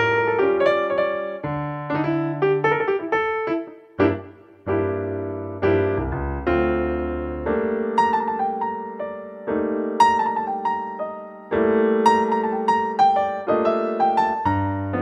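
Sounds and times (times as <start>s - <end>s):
slow gentle piano tune: 0.0s - 15.0s.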